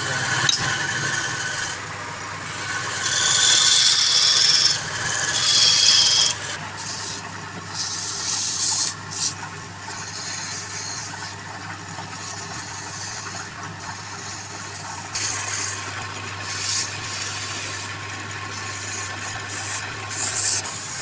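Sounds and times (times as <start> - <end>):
lathe motor humming: 0.0 - 21.0
tool scraping spinning wood: 0.0 - 21.0.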